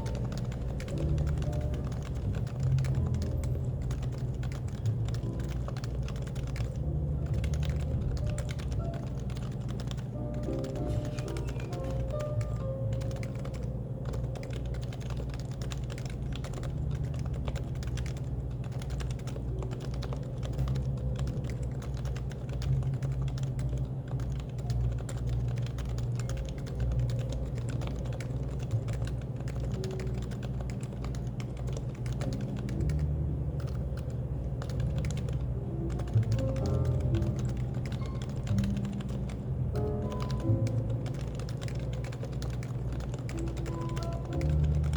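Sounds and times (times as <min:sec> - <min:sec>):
background music: 0:00.0 - 0:44.9
keyboard typing: 0:00.0 - 0:44.9.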